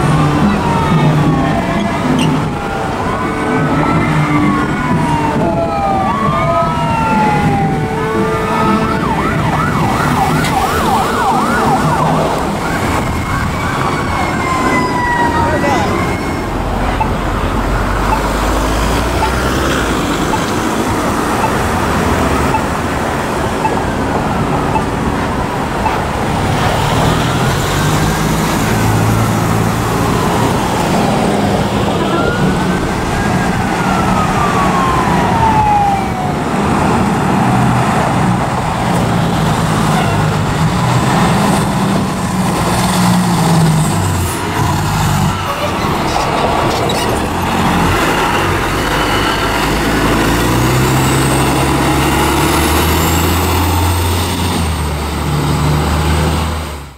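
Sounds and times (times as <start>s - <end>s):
diesel fire truck engine: 0.0s - 56.9s
fire truck siren wailing: 0.0s - 56.9s
road traffic: 0.0s - 56.9s.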